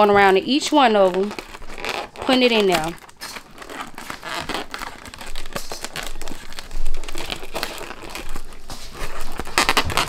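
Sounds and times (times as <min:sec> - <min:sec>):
foil balloon crinkling: 0:00.0 - 0:10.0.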